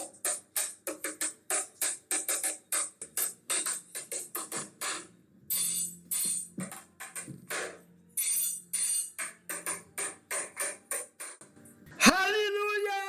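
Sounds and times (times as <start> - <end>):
drum machine beat: 0.0 - 11.4
synthesizer: 0.0 - 13.0.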